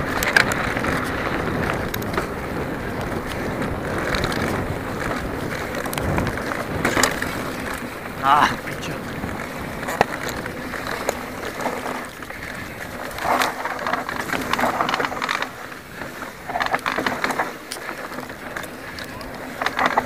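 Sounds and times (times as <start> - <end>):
bike rattling: 0.0 - 20.0
bike tyres on ground: 0.0 - 20.0
wind rushing over microphone: 0.0 - 20.0.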